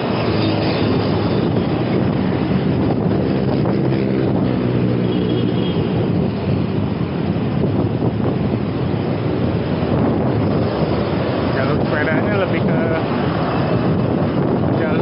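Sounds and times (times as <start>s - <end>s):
motor traffic hum: 0.0s - 15.0s
road and wind noise: 0.0s - 15.0s.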